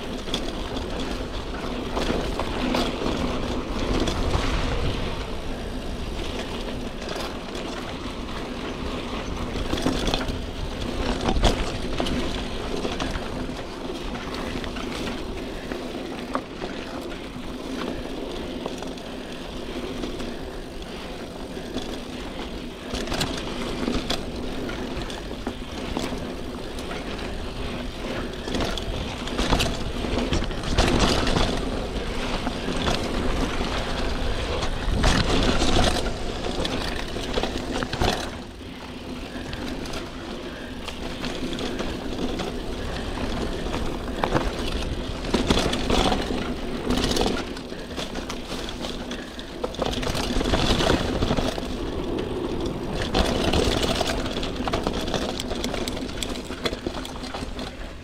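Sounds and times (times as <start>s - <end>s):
bike rattling over bumps: 0.0s - 58.0s
bike tyres rolling over dirt: 0.0s - 58.0s.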